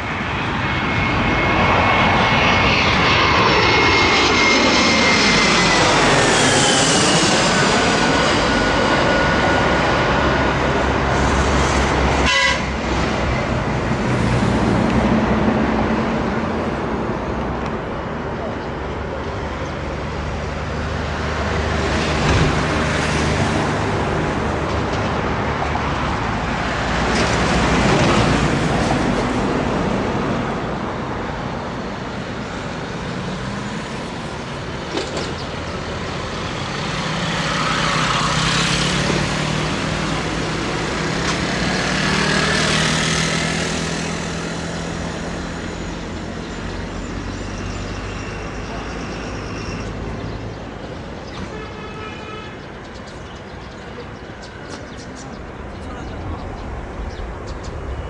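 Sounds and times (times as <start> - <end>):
highway traffic: 0.0 - 58.0
trucks and buses passing: 0.0 - 58.0.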